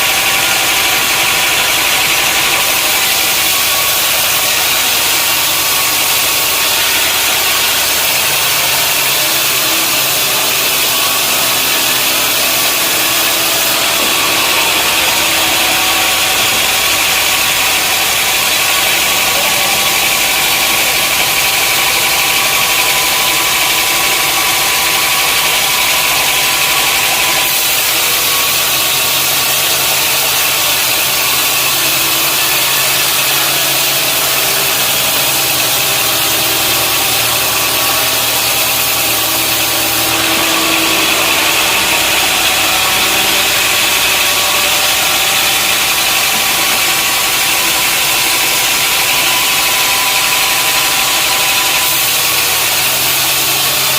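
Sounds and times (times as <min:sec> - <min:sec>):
loud high hiss: 0:00.0 - 0:53.9
motor hum: 0:00.0 - 0:53.9.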